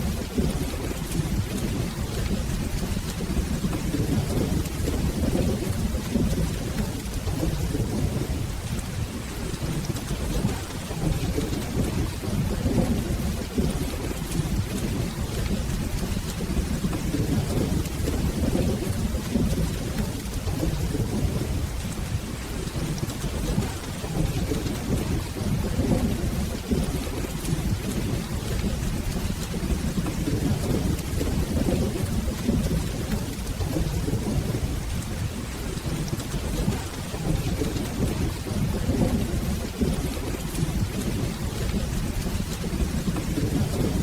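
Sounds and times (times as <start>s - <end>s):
rolling thunder rumble: 0.0s - 44.0s
steady rain: 0.0s - 44.0s.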